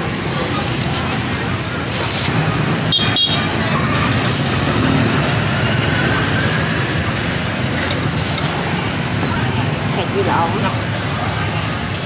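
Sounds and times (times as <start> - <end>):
street traffic engines passing: 0.0 - 12.0.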